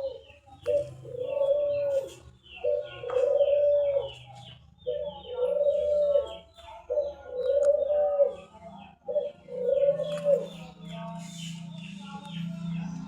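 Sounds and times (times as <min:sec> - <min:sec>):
bird cooing: 0:00.0 - 0:11.9
small birds chirping: 0:00.0 - 0:13.0.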